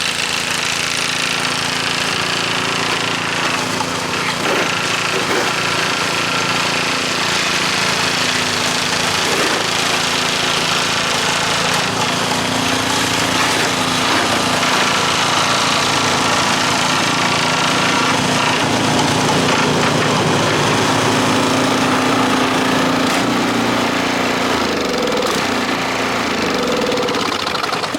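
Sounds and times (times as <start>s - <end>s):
small engine running: 0.0s - 27.9s.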